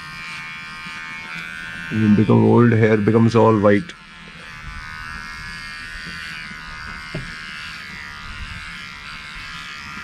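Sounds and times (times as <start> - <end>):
electric hair trimmer buzzing: 0.0 - 10.0.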